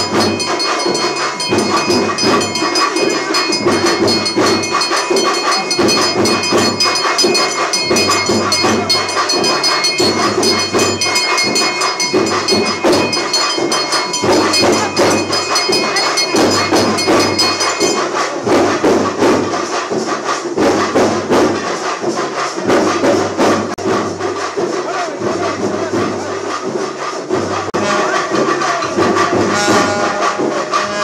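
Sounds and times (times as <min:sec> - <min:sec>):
brass hand bell ringing rapidly: 0:00.0 - 0:31.0
rhythmic temple music and percussion: 0:00.0 - 0:31.0.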